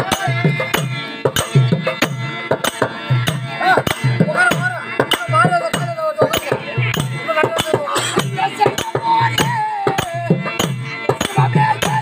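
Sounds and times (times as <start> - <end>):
harmonium drone: 0.0 - 12.0.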